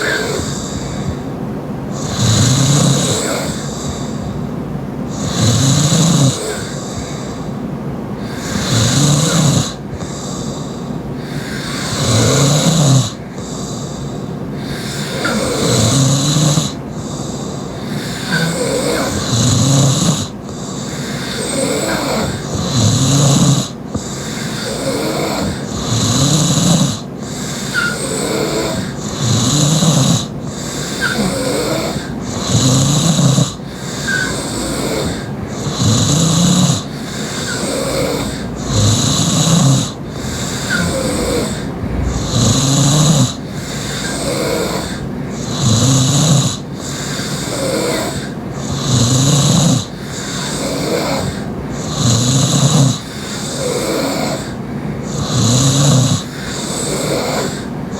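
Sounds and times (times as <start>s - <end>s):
woman snoring loudly: 2.0s - 4.0s, 5.1s - 7.1s, 8.2s - 10.4s, 11.2s - 13.6s, 14.6s - 17.2s, 17.8s - 20.3s, 20.9s - 43.4s, 44.1s - 54.5s, 55.1s - 57.7s.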